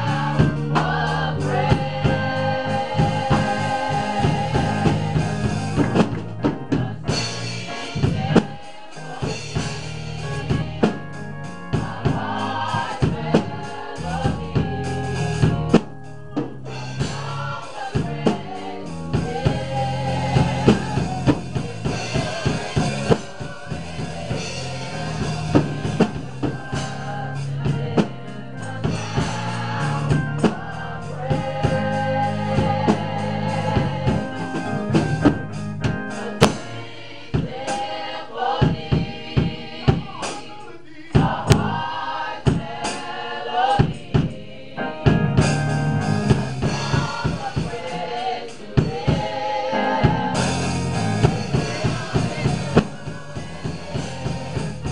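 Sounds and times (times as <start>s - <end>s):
drum kit beating: 0.0s - 54.9s
gospel choir singing: 0.0s - 54.9s.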